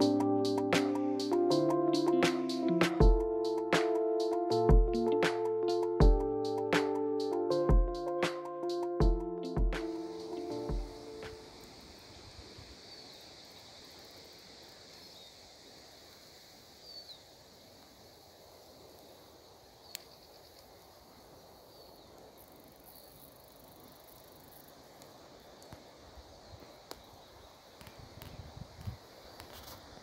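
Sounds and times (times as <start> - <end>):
faint outdoor ambience: 0.0 - 30.0.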